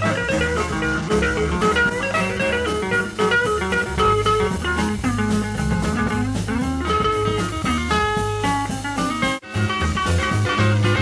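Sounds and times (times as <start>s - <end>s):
bass line: 0.0s - 11.0s
guitar lines: 0.0s - 11.0s
rock and blues band playing: 0.0s - 11.0s
steady drum beat: 0.0s - 11.0s.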